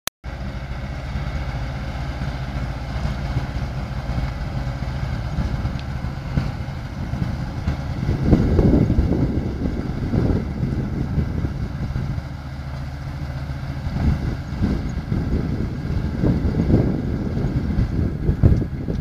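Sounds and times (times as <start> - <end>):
tractor and harvester rumbling: 0.2 - 19.0.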